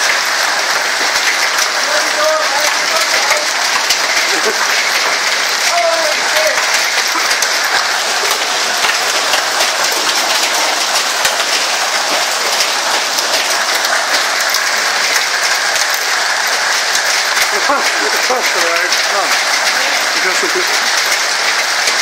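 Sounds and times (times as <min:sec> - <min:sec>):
heavy rain pelting: 0:00.0 - 0:22.0.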